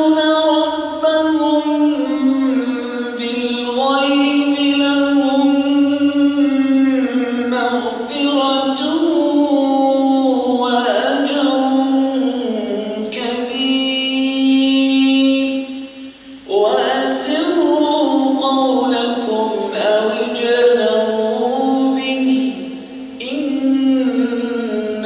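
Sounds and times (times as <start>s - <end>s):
man chanting recitation: 0.0s - 25.0s.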